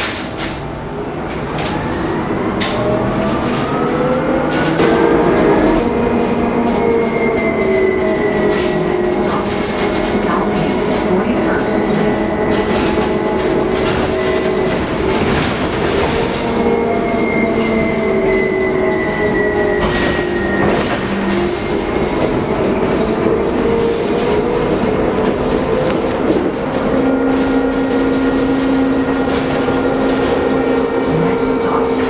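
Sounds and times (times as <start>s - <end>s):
bus road and cabin noise: 0.0s - 32.0s.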